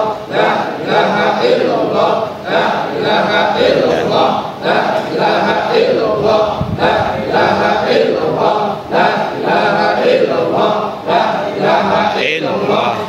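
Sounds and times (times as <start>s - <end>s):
congregation chanting over loudspeakers: 0.0s - 13.0s.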